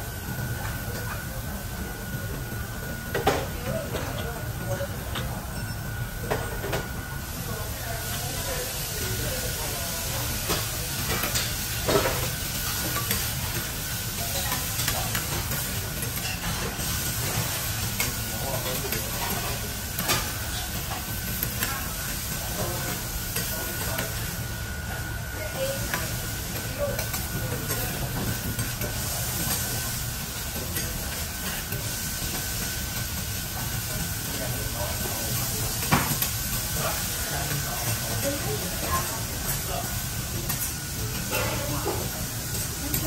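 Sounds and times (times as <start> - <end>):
food sizzling on griddle: 0.0 - 43.0.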